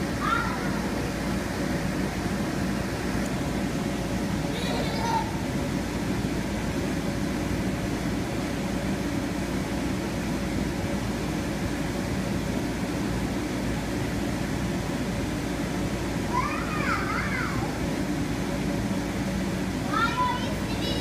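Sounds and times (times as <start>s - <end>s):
electric blower fan running: 0.0s - 21.0s.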